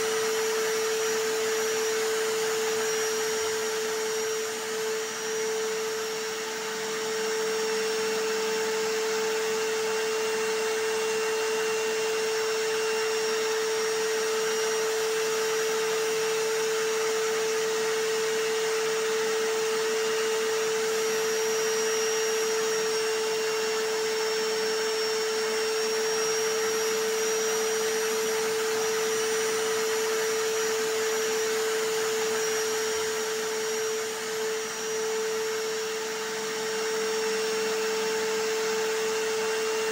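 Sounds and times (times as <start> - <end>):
hammer drill: 0.0 - 39.9
vacuum cleaner: 0.0 - 39.9.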